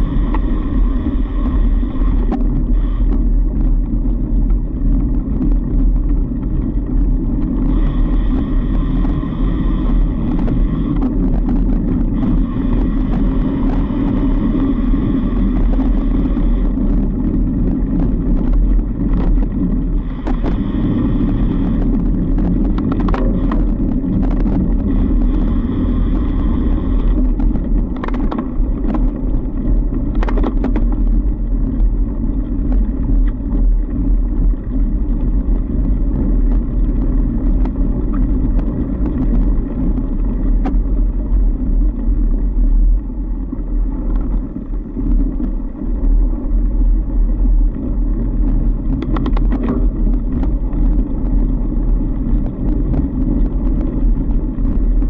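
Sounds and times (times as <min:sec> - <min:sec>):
bike clicks and rattles: 0:00.0 - 0:55.0
tyres rumbling on snow: 0:00.0 - 0:55.0
wind on microphone: 0:00.0 - 0:55.0.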